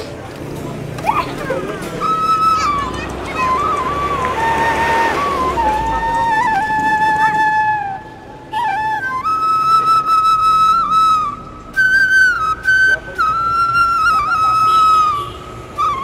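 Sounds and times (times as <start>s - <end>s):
slow flute melody: 1.1s - 16.0s.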